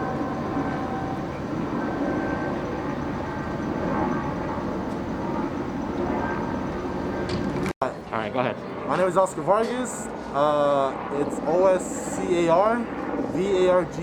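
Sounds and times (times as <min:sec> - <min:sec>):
engines rumbling: 0:00.0 - 0:14.0.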